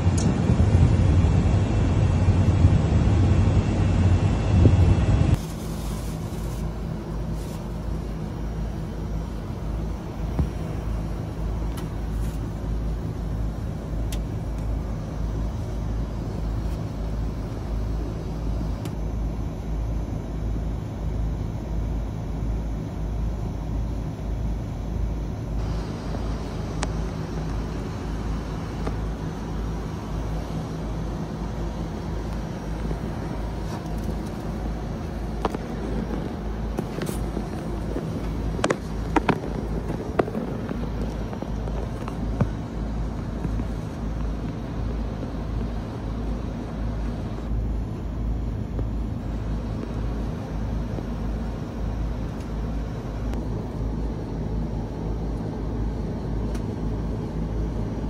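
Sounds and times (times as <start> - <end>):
air conditioner rumbling: 0.0 - 58.0
pulsing low hum: 0.0 - 58.0.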